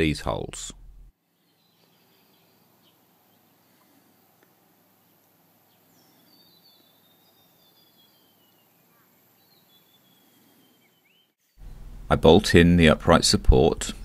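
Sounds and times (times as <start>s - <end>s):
distant birds calling: 0.8s - 12.2s.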